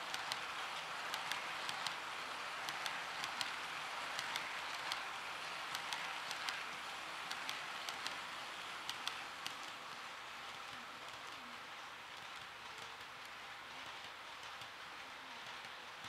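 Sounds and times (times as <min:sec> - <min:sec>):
model train rolling on track: 0:00.0 - 0:16.0
wheels clicking over rail joints: 0:00.0 - 0:16.0.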